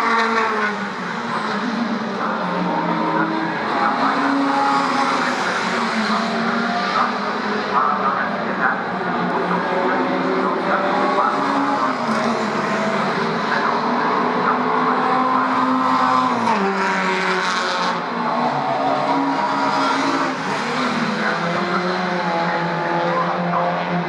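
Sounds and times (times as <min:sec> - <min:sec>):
race car engines running: 0:00.0 - 0:24.0.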